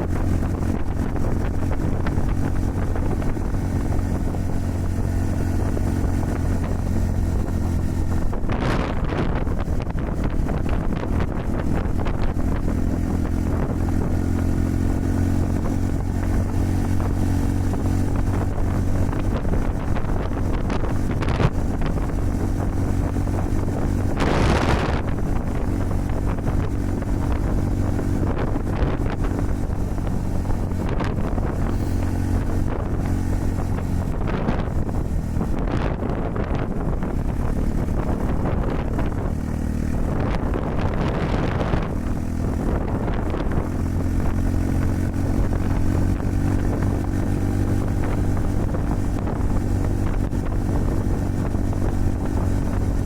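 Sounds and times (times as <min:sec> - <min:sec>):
loud rushing whoosh: 0:00.0 - 0:53.0
motorcycle engine running: 0:00.0 - 0:53.0
wind buffeting microphone: 0:00.0 - 0:53.0.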